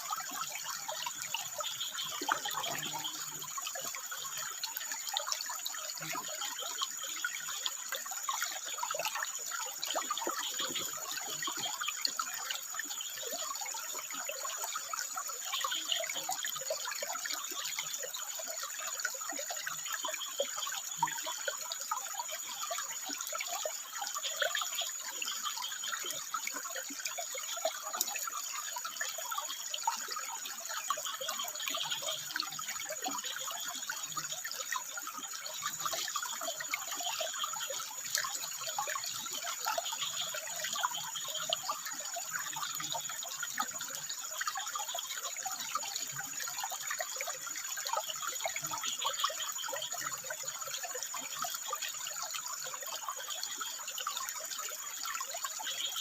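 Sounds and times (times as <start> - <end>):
water trickling over rocks: 0.0 - 56.0.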